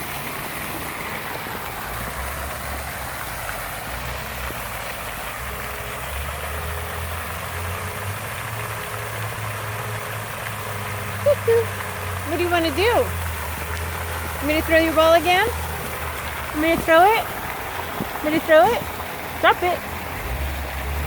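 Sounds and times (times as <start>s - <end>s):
fountain water rushing: 0.0s - 21.0s.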